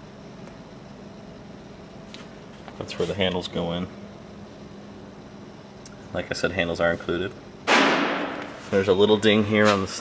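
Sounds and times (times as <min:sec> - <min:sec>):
room noise hum and hiss: 0:00.0 - 0:10.0.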